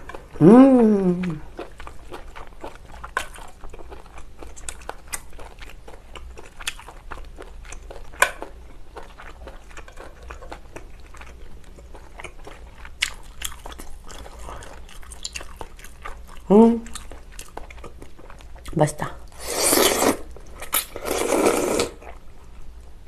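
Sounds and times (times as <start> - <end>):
person chewing and slurping noodles: 1.2 - 18.7, 19.3 - 22.2.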